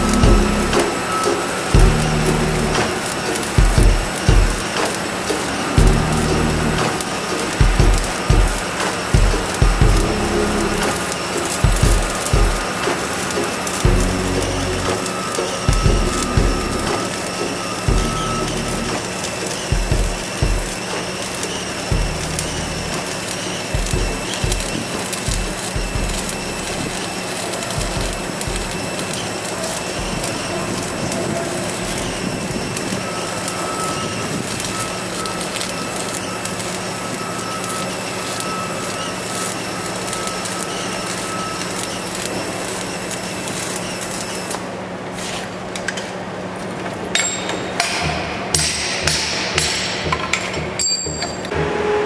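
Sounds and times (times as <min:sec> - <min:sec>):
welding arc crackling and hissing: 0:00.0 - 0:51.2.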